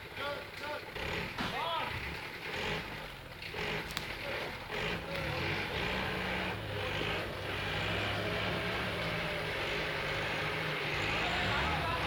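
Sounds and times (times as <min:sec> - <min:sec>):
jeep engine running: 0:00.0 - 0:12.0.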